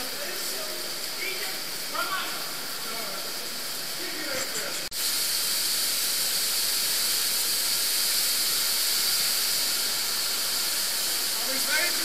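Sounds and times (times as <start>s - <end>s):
water rushing through tunnel: 0.0s - 12.0s.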